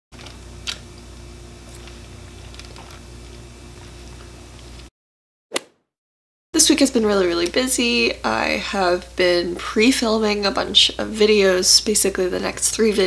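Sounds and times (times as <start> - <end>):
low room hum: 0.2 - 4.9, 6.6 - 13.0.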